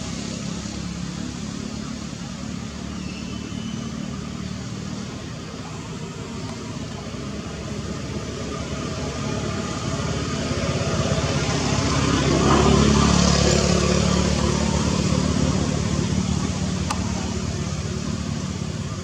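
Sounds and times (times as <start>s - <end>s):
motor vehicle engine approaching: 0.0s - 19.0s.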